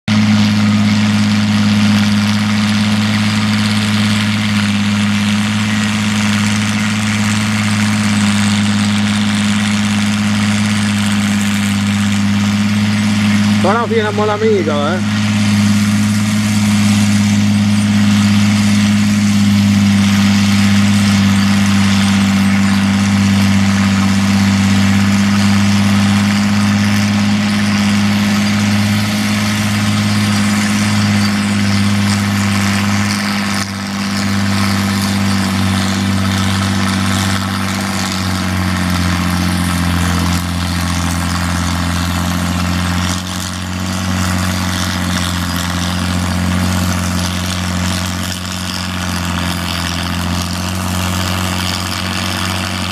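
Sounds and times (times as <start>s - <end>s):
diesel tractor engine under load: 0.0s - 52.9s.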